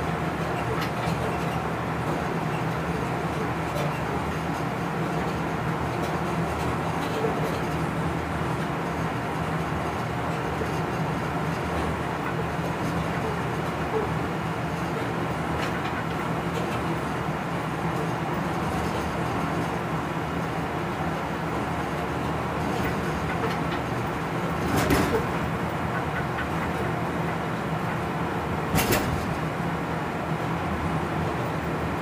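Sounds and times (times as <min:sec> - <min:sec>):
locomotive running noise: 0:00.0 - 0:32.0.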